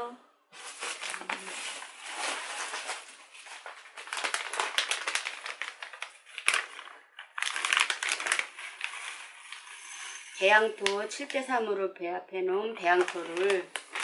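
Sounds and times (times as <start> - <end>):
plastic bag crinkling: 0.6 - 11.5, 12.8 - 14.0.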